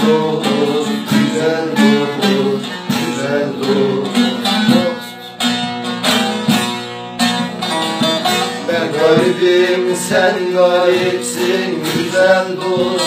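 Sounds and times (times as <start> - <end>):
long-necked lutes plucked and strummed: 0.0 - 13.0.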